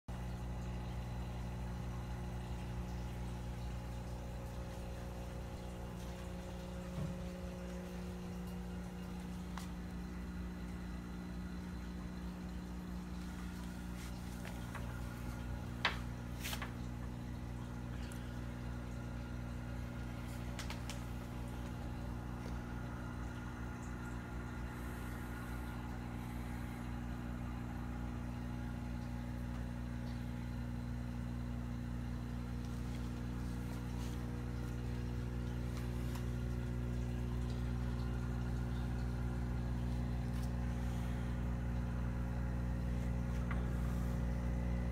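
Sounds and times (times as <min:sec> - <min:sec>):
low electrical hum: 0:00.1 - 0:44.9.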